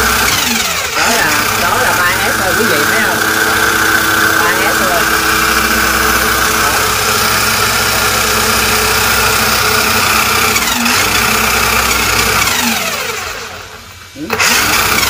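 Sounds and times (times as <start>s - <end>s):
rc car motor whine: 0.0s - 15.0s.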